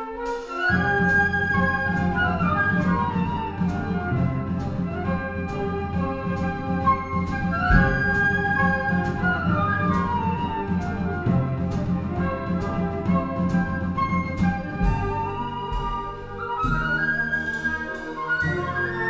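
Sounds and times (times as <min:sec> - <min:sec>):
flute ensemble playing: 0:00.0 - 0:19.0.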